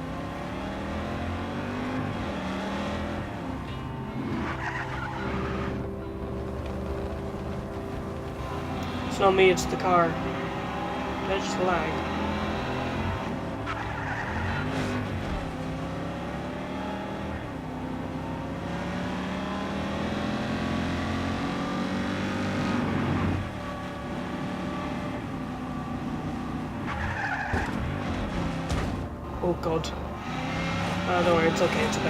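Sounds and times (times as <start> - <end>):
video game car engine revving: 0.0 - 29.2, 30.0 - 32.0.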